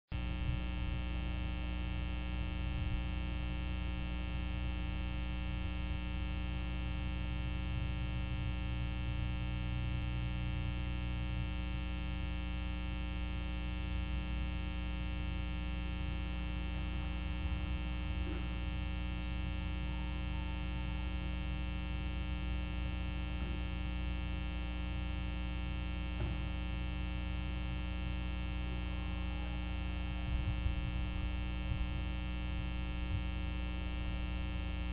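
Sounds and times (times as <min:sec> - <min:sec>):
electrical hum and whine: 0:00.1 - 0:34.9.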